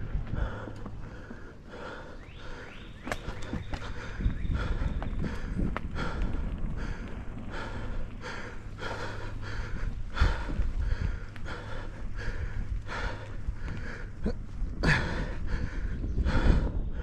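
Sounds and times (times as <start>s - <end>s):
tyres rumbling on dirt: 0.0s - 16.5s
person breathing hard: 0.0s - 17.0s.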